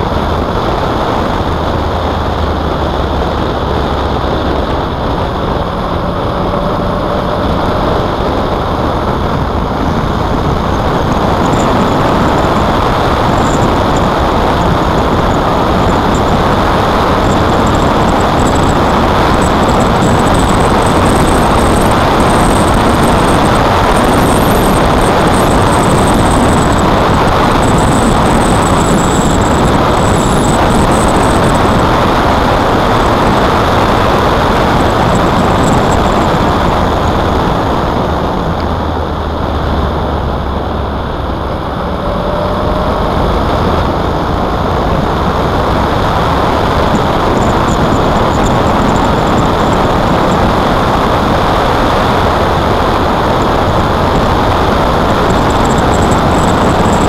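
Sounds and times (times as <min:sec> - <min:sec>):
motorcycle engine: 0:00.0 - 0:57.0
wind noise on microphone: 0:00.0 - 0:57.0.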